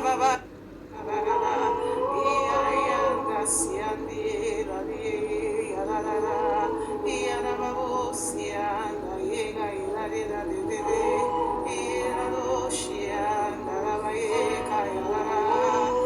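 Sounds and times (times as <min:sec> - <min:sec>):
soft background music: 0:00.0 - 0:16.0
voices singing wordlessly: 0:01.0 - 0:16.0.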